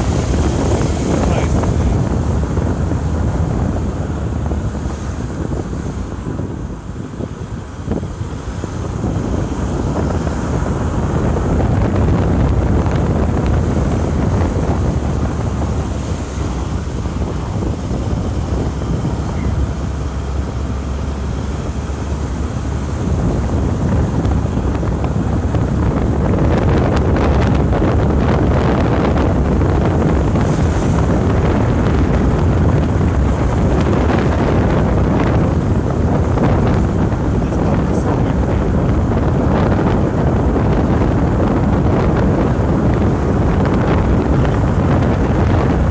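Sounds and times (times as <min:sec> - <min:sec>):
car road noise: 0:00.0 - 0:45.9
wind buffeting microphone: 0:00.0 - 0:45.9.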